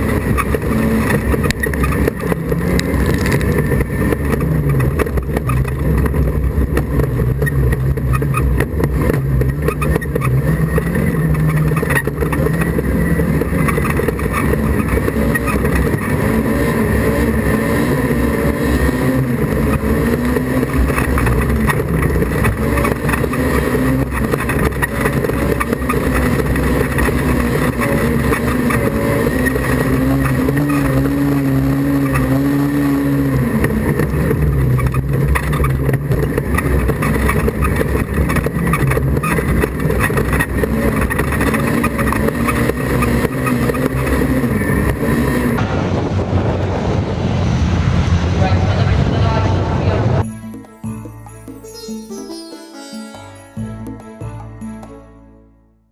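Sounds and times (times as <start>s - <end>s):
loud rumble inside car: 0.0s - 50.3s
race car engine running: 0.0s - 50.7s.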